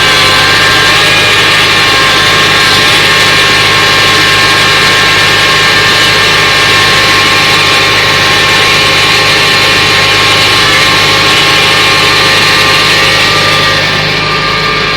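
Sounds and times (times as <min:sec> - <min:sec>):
harvester machinery running: 0:00.0 - 0:14.9
steady machine whine: 0:00.0 - 0:14.9
tractor engine running: 0:00.0 - 0:14.9.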